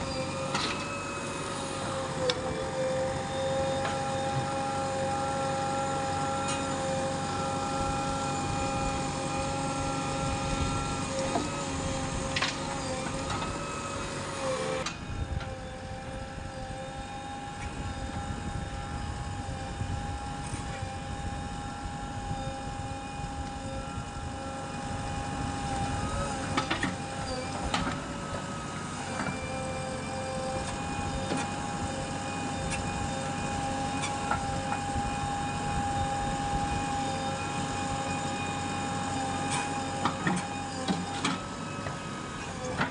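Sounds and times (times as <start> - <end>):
diesel engine running under load: 0.0 - 42.9.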